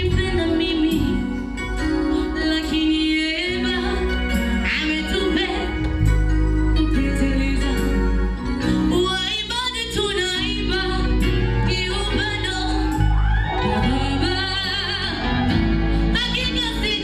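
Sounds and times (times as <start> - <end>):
woman singing: 0.0 - 6.1, 6.8 - 17.0
instrumental backing music: 0.0 - 17.0.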